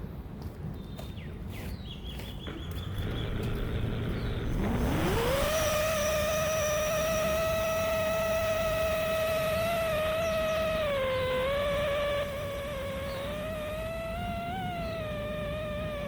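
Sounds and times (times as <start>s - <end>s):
quadcopter motors whining: 2.5s - 16.0s.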